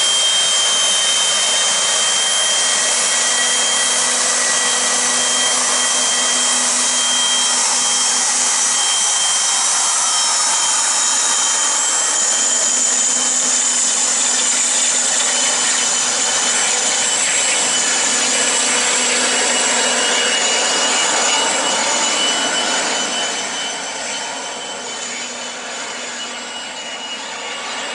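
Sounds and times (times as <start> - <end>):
jet engines whining at taxi: 0.0 - 27.9.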